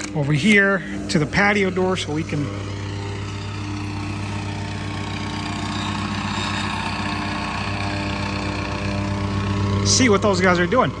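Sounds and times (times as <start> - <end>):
compactor engine running: 0.0 - 11.0
fast even pulsing of tamping: 0.4 - 11.0.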